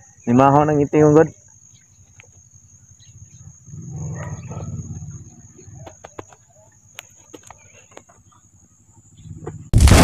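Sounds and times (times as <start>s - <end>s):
motorcycle engine idling: 0.0s - 9.7s.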